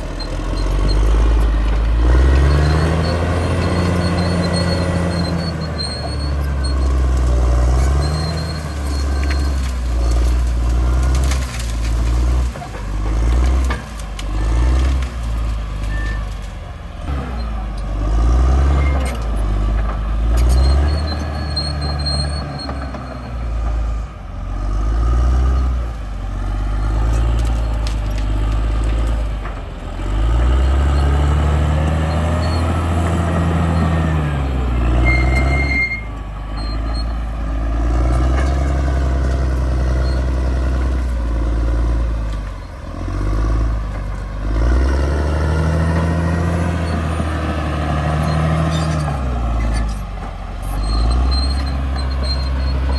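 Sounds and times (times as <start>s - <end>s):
bulldozer diesel engine working: 0.0s - 52.9s.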